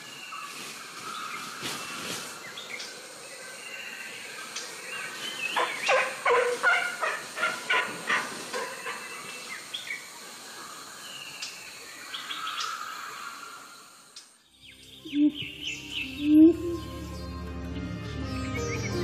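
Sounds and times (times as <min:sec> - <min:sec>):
high insect-like hum: 0:00.3 - 0:17.6.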